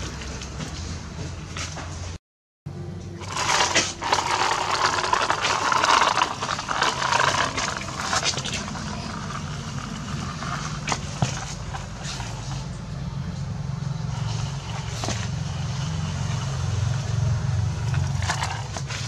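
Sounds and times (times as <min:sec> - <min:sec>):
toy wheels rolling on concrete: 0:03.1 - 0:19.0.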